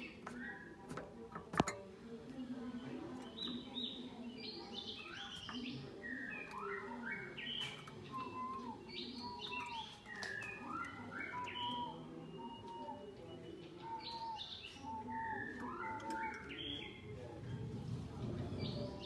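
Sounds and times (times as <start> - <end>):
songbirds chirping and singing: 0.0 - 19.0.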